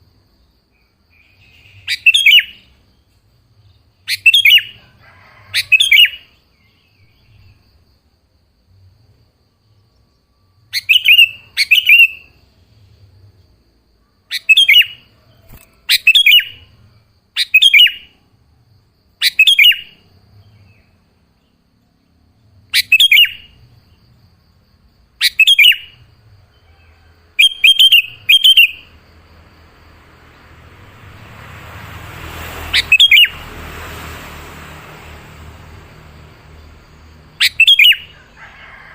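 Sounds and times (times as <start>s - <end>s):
bird chirping: 0.4s - 4.8s, 5.5s - 7.9s, 9.6s - 13.5s, 14.2s - 18.2s, 19.2s - 24.2s, 25.1s - 38.4s.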